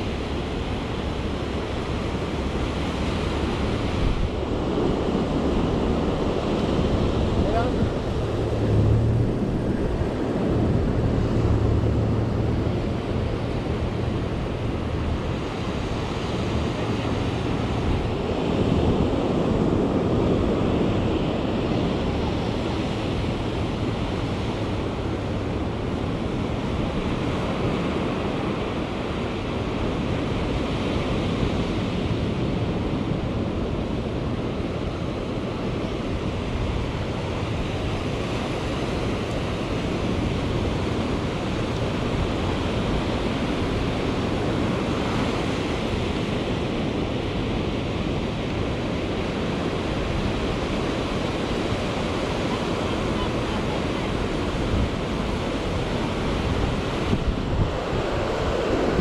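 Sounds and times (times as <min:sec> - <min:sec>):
ocean waves washing up beach: 0:00.0 - 0:59.0.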